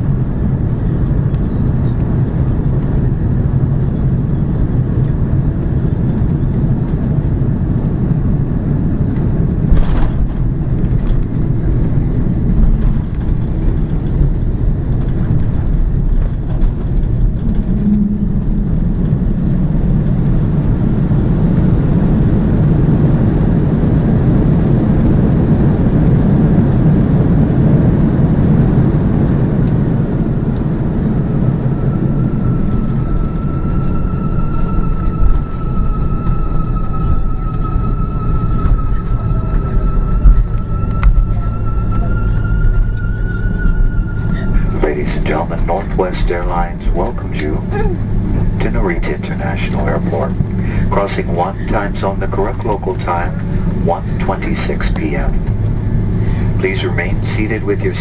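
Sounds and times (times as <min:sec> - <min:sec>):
engine roar and rushing air: 0:00.0 - 0:58.0.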